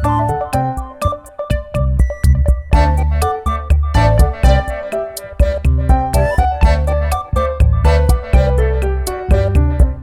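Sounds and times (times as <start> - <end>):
electronic instrumental music: 0.0 - 10.0.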